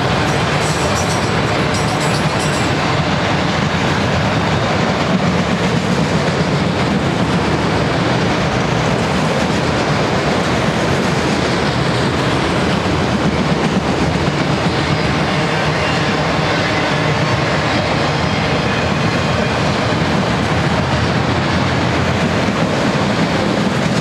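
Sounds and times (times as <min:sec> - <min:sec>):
train wheels running on rails: 0:00.0 - 0:24.0.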